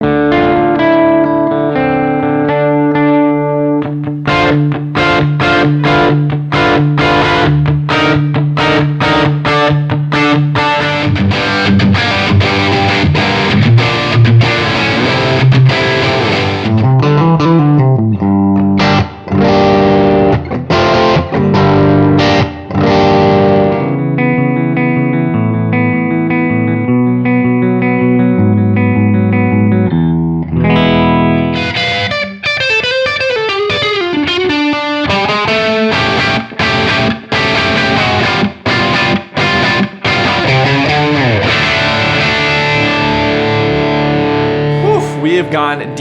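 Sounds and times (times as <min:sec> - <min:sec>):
overdriven electric guitar: 0:00.0 - 0:46.0.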